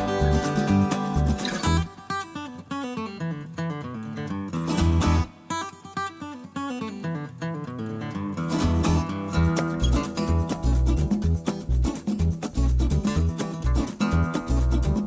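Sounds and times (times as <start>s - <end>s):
upbeat acoustic guitar music: 0.0s - 15.0s.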